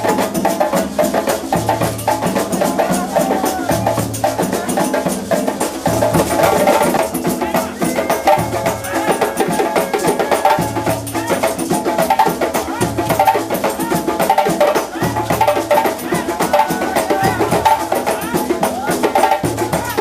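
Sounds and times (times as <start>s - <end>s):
percussion group drumming: 0.0s - 20.0s.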